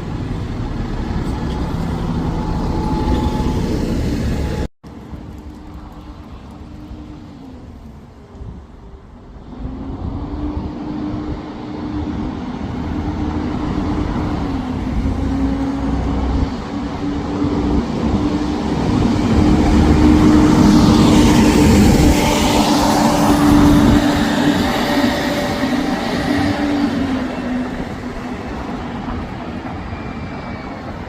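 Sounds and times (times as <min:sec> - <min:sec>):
bus engine whining: 0:00.0 - 0:31.0
road noise rushing: 0:00.0 - 0:31.0.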